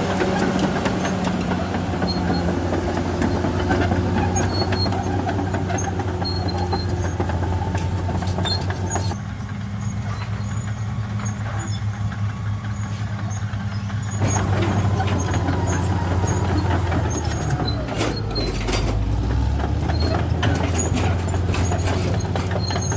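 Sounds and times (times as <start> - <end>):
bulldozer diesel engine: 0.0 - 22.9
steel tracks clanking: 0.0 - 22.9.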